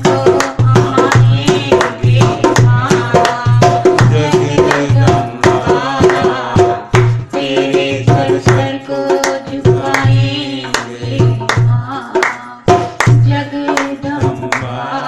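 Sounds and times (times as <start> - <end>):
hand drum folk rhythm: 0.0 - 15.0.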